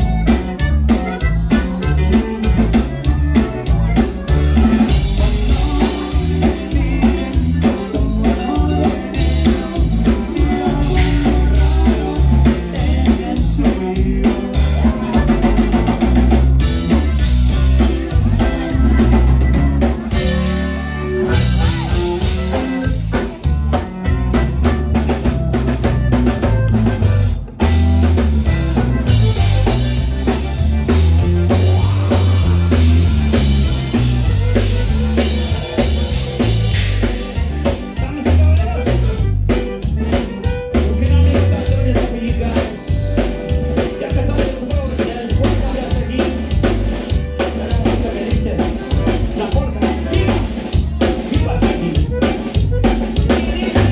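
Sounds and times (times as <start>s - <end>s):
bass guitar: 0.0s - 53.9s
button accordion: 0.0s - 53.9s
drum kit beat: 0.0s - 53.9s
live band playing dance music: 0.0s - 53.9s.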